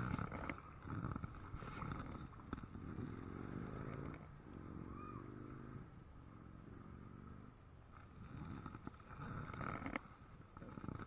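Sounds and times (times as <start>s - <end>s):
low drawn-out animal call: 0.0s - 10.0s.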